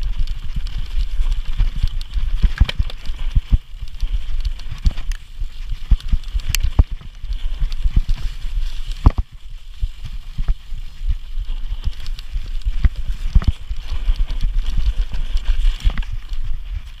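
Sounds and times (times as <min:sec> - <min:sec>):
bike rattling: 0:00.0 - 0:17.0
wind rumble on microphone: 0:00.0 - 0:17.0.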